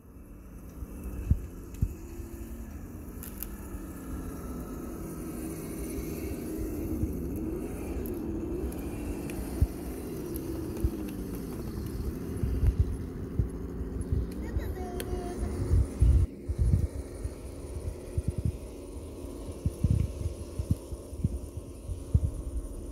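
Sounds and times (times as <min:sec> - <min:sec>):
electric motor and gearbox whining: 0:00.0 - 0:22.9.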